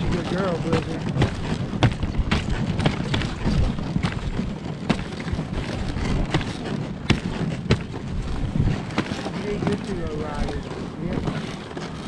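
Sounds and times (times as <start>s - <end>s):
sled knocks and rattles: 0.0s - 12.0s
sled rushing rumble: 0.0s - 12.0s.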